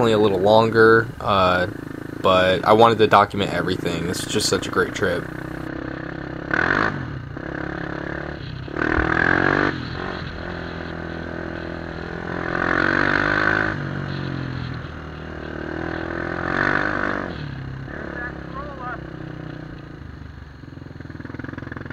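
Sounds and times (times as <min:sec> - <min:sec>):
atv engine revving: 0:00.0 - 0:21.9.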